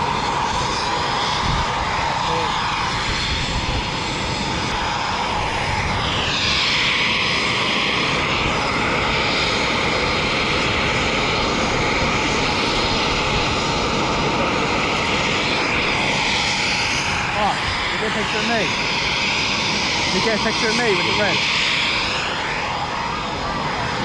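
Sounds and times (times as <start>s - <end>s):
jet engine roaring and whining: 0.0s - 24.0s.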